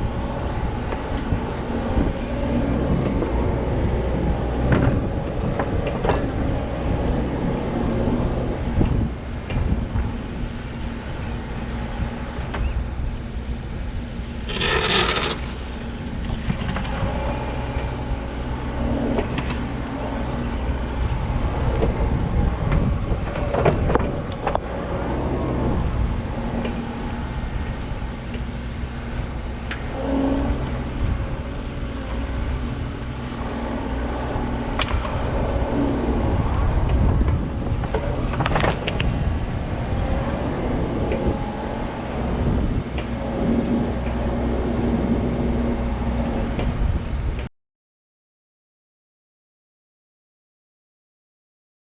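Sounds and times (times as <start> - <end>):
diesel engine running: 0.0 - 47.5.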